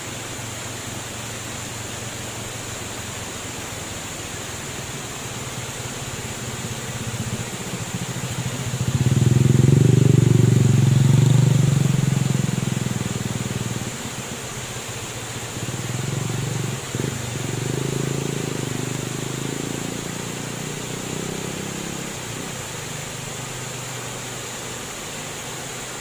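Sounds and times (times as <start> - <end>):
flowing water rushing: 0.0 - 26.0
vehicle engine hum passing: 2.0 - 26.0.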